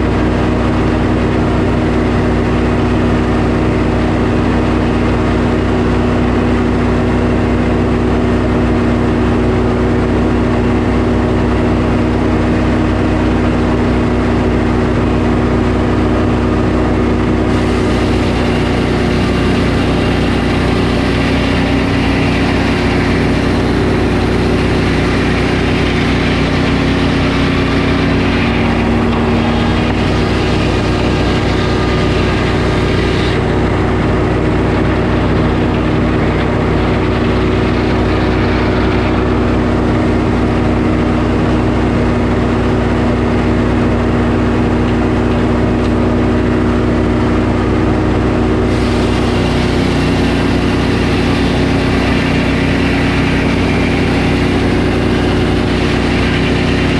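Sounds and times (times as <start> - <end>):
sawmill engine running: 0.0 - 56.9.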